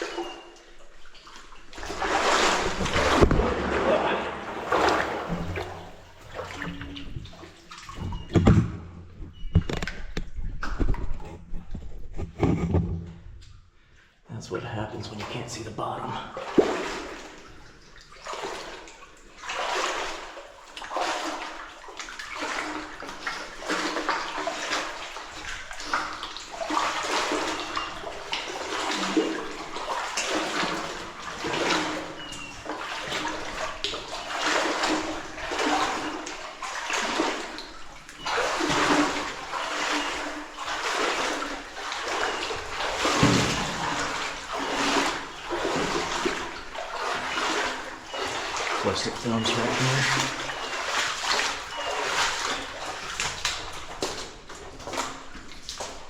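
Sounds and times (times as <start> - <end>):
wading through deep water: 0.0 - 8.5, 14.6 - 56.0.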